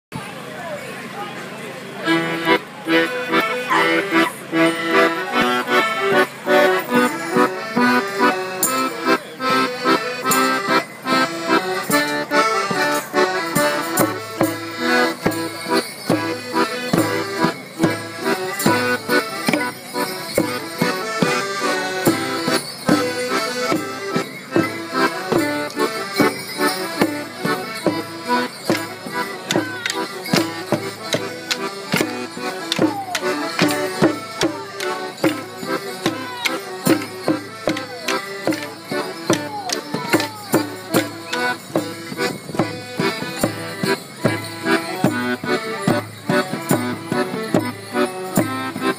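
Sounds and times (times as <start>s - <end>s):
accordion folk tune: 0.2s - 48.9s.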